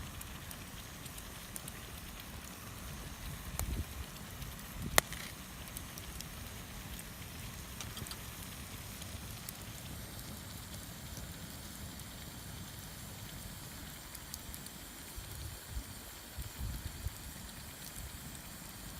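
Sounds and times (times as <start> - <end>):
campfire crackling and popping: 0.0 - 18.9.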